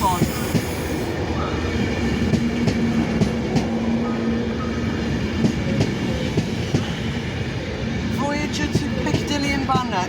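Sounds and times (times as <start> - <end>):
electric train humming: 0.0 - 10.0.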